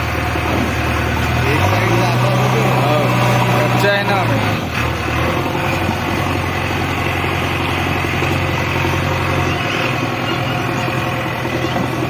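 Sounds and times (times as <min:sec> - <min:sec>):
diesel engine idling low: 0:00.0 - 0:12.0.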